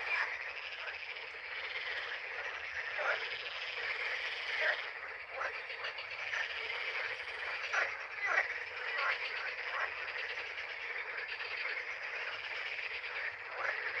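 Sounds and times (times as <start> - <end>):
frogs chorus: 0.0 - 14.0
individual frog calls: 0.0 - 14.0.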